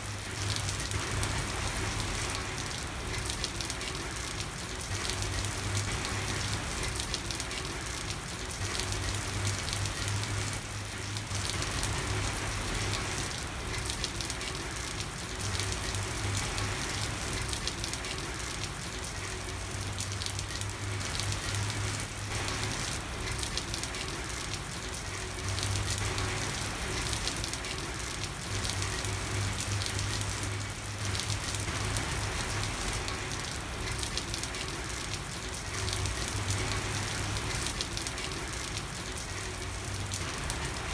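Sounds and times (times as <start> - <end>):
rain pattering on street: 0.0 - 40.9.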